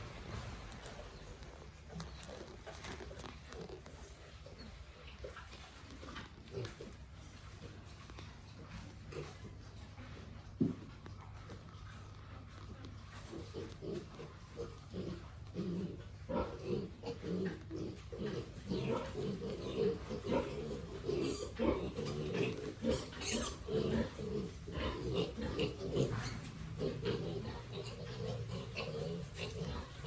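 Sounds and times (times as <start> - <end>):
pigs grunting: 0.0 - 30.0.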